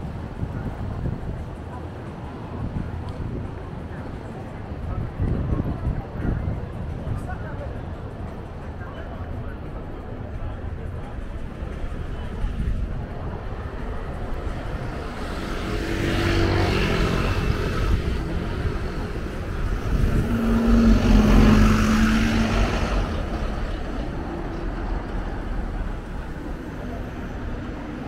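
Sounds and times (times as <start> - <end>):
low traffic rumble: 0.0 - 28.0
vehicles passing by: 0.0 - 28.0.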